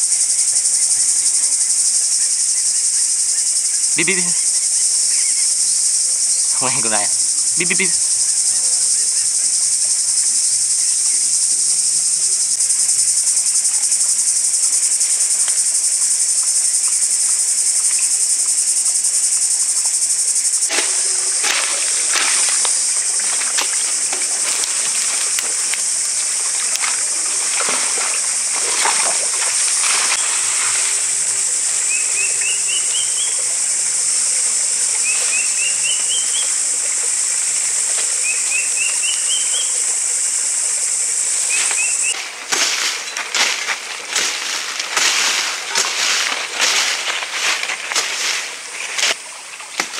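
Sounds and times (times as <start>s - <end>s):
insect chorus buzzing: 0.0s - 49.9s.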